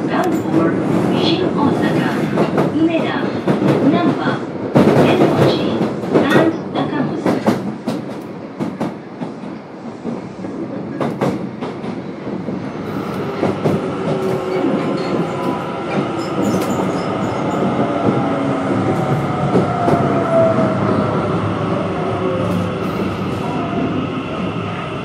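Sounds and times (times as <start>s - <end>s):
subway train running: 0.0s - 25.0s.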